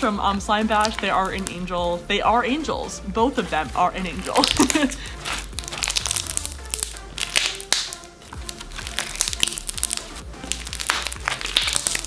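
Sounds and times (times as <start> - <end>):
bead slime crackling: 0.0 - 1.7, 3.5 - 12.0
background music: 0.0 - 12.0.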